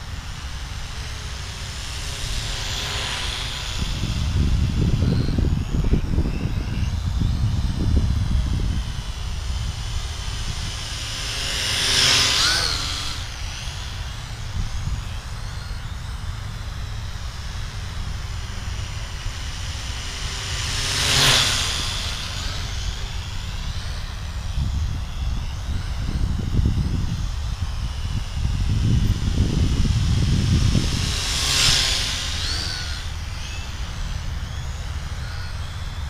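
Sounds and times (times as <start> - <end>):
drone propellers whining: 0.0 - 36.0
steady low rumble: 0.0 - 36.0.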